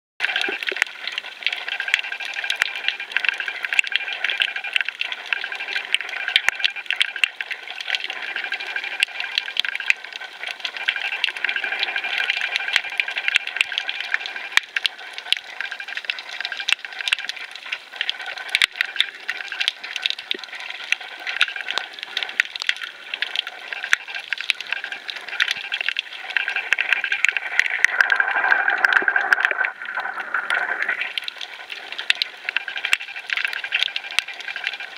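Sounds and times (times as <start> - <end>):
underwater rush with crackling clicks: 0.2 - 34.9.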